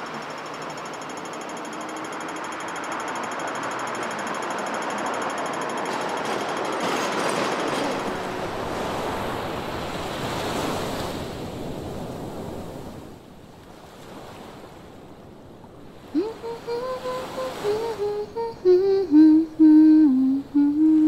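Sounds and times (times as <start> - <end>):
sea waves: 0.0 - 21.0.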